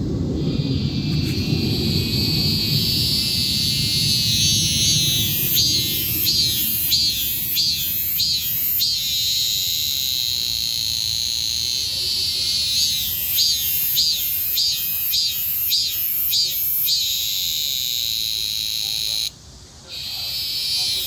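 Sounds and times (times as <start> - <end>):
cicada singing: 0.0 - 21.0.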